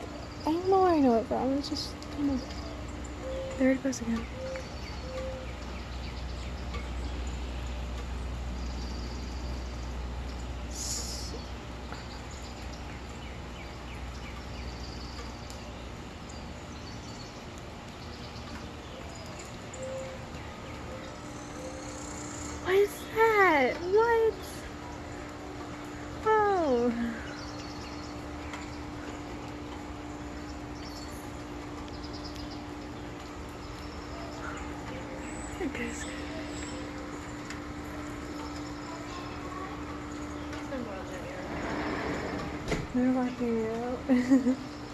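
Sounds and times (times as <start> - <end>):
low steady rumble: 0.0 - 44.9
steady low hum: 0.0 - 44.9.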